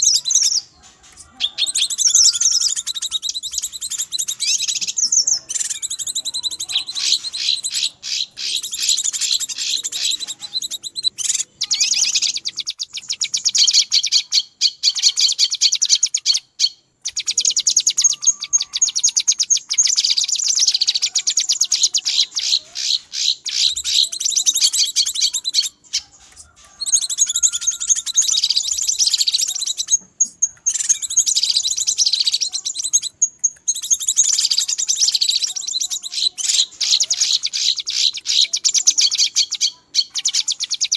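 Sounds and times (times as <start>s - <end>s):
birds chattering with high chirps: 0.0s - 40.9s.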